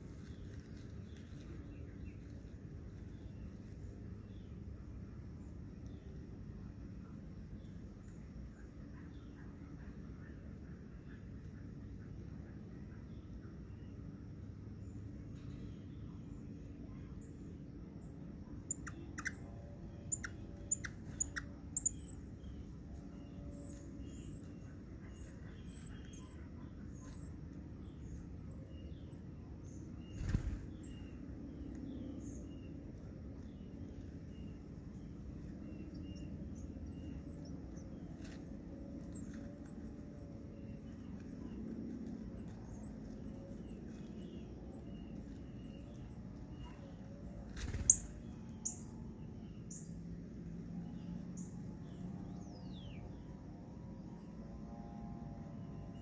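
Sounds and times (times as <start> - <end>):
small birds chirping: 0.0 - 54.4
low steady rumble: 0.0 - 56.0.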